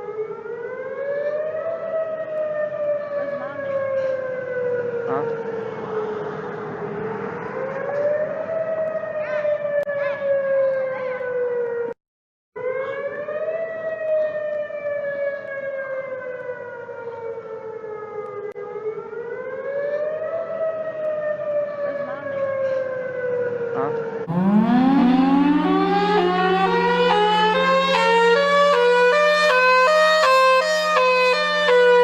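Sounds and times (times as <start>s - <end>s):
warning siren wailing: 0.0s - 12.0s, 12.6s - 32.0s.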